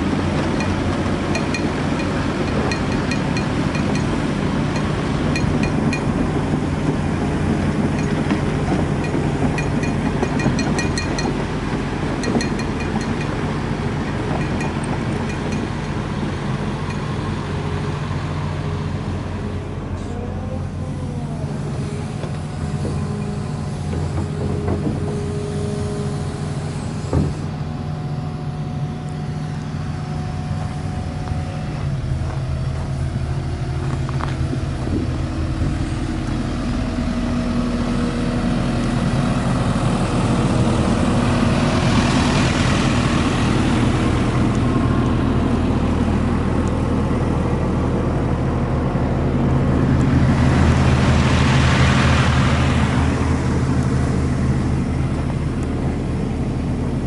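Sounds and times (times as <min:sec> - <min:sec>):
excavator diesel engine idling: 0:00.0 - 0:57.0.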